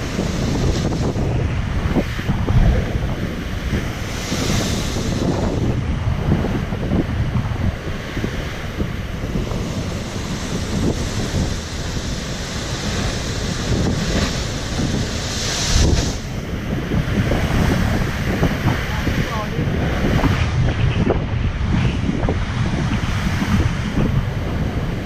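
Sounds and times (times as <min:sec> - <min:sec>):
ocean waves crashing: 0:00.0 - 0:25.0
wind buffeting microphone: 0:00.0 - 0:25.0.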